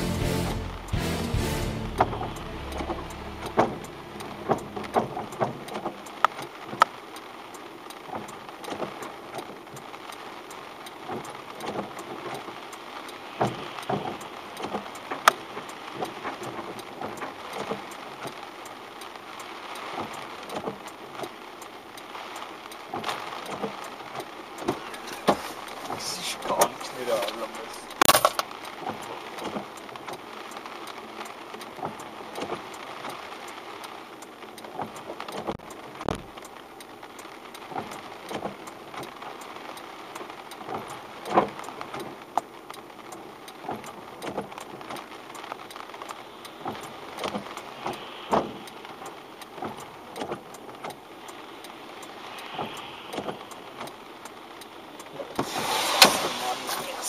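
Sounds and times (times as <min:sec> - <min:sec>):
rain hissing: 0:00.0 - 0:57.0
raindrops ticking on car: 0:00.0 - 0:57.0.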